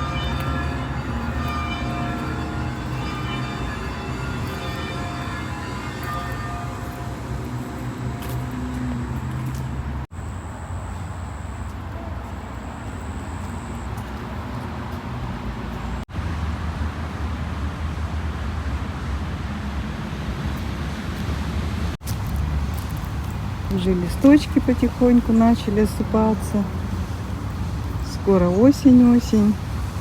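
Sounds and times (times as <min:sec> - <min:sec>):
distant city traffic: 0:00.0 - 0:30.0.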